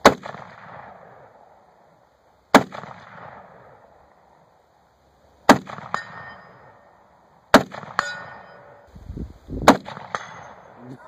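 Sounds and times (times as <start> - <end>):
rifle shots with rolling echo: 0.0 - 4.6, 5.4 - 8.9, 9.6 - 11.0.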